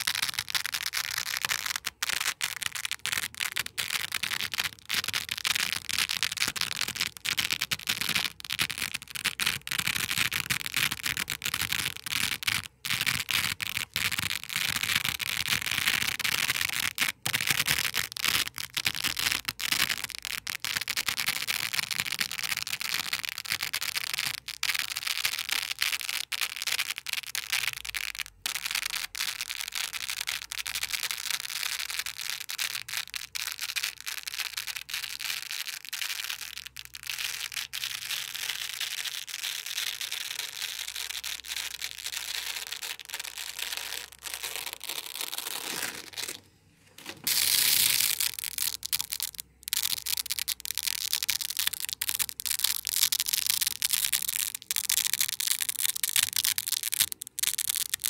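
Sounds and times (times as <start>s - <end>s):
hook-and-loop tape ripping: 0.0s - 58.0s.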